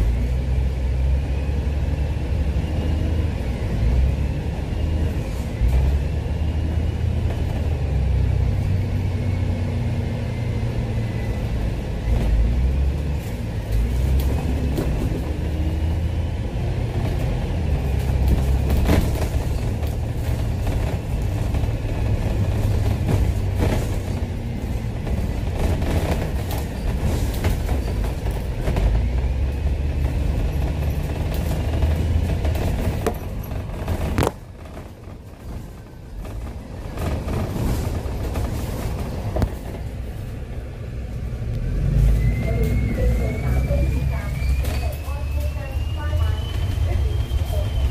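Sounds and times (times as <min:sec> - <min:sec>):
bus engine rumble: 0:00.0 - 0:47.9.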